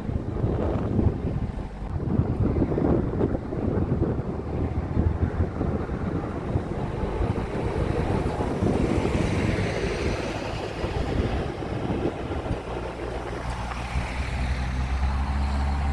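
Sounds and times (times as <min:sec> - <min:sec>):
vehicle engine rumble: 0:00.0 - 0:15.9
wind buffeting the microphone: 0:00.0 - 0:15.9.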